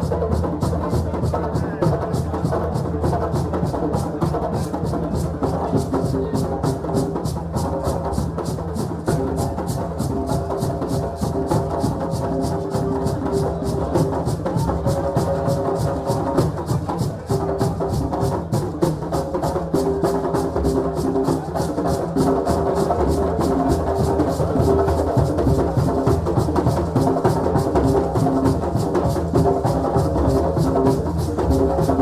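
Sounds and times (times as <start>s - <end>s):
group drumming: 1.9s - 32.0s.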